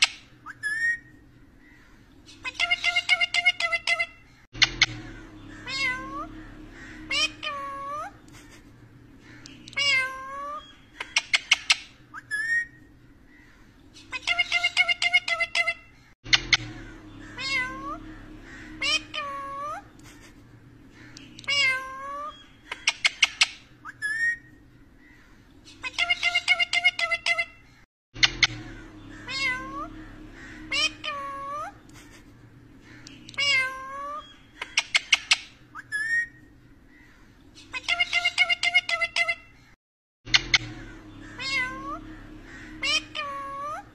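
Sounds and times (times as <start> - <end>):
parakeet calling: 0.0 - 39.7, 40.3 - 43.9.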